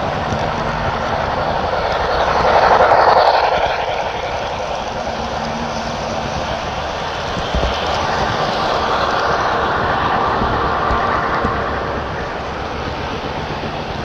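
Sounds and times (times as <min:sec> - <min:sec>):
train rushing past: 0:00.0 - 0:14.0.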